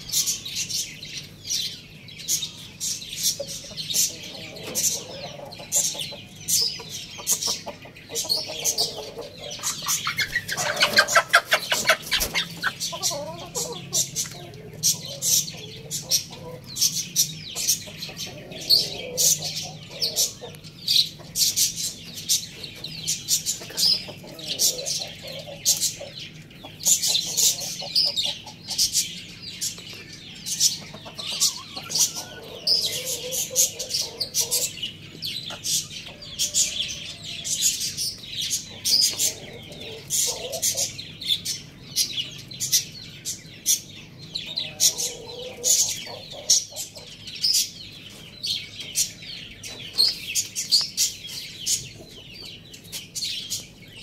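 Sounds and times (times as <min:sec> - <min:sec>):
small birds chirping: 0:00.0 - 0:54.0
chickens clucking softly: 0:02.3 - 0:54.0.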